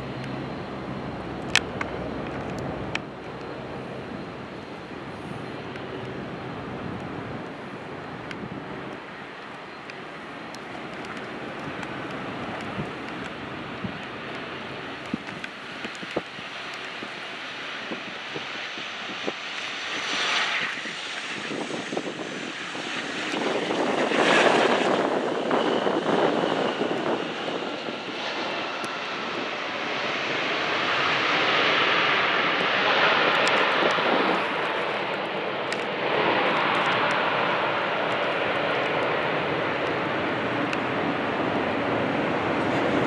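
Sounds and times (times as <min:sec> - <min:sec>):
airplane engine passing: 0:00.0 - 0:43.0.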